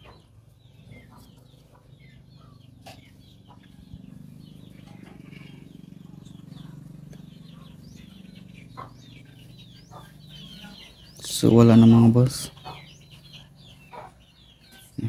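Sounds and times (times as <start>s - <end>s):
birds chirping: 0.0s - 15.0s
chickens clucking: 0.0s - 15.0s.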